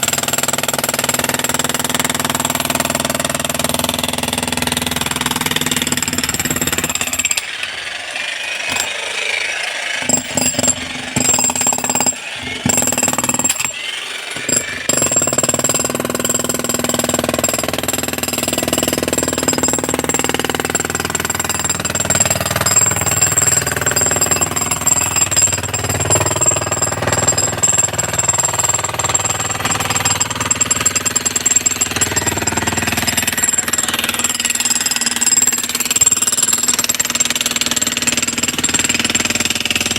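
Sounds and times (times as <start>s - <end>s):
demolition hammer rattling on concrete: 0.0s - 39.9s.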